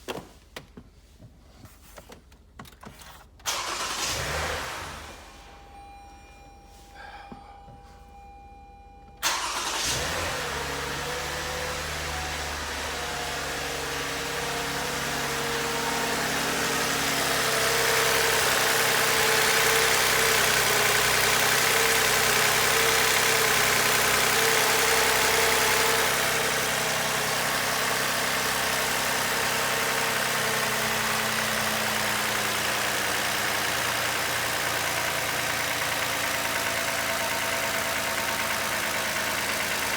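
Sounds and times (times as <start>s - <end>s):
car engine cranking and running: 2.6s - 6.0s, 8.8s - 39.9s.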